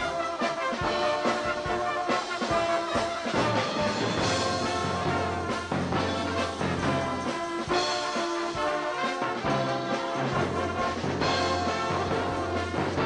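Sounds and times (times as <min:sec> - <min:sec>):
brass band music: 0:00.0 - 0:13.0
percussion strokes: 0:00.0 - 0:13.0
trombones playing sustained notes: 0:00.0 - 0:13.0.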